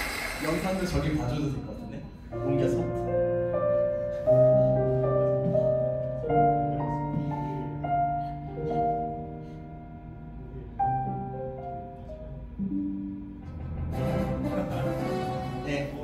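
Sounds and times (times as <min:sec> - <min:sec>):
piano chords on keyboard: 0:01.0 - 0:16.0.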